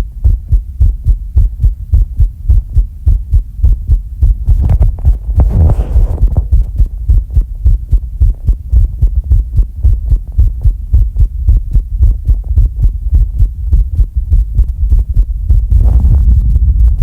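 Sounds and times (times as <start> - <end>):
low muffled thumping: 0.0 - 17.0.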